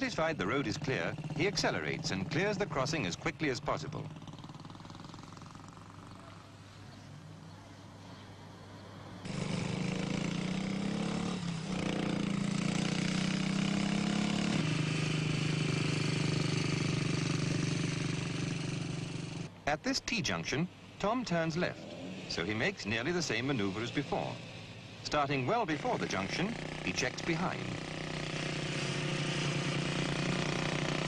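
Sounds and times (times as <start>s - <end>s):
small motorcycle engine running: 0.0s - 6.7s, 9.2s - 19.5s, 21.7s - 31.0s.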